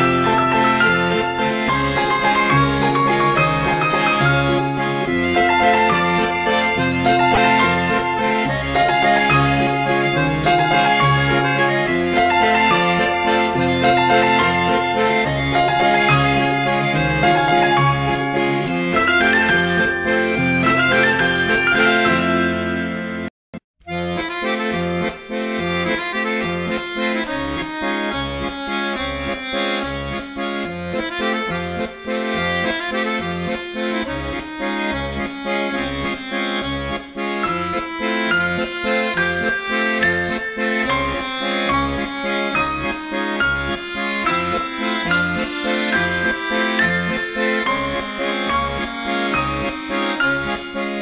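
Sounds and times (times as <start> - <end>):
instrumental music with bass beat: 0.0 - 23.2, 23.8 - 51.0.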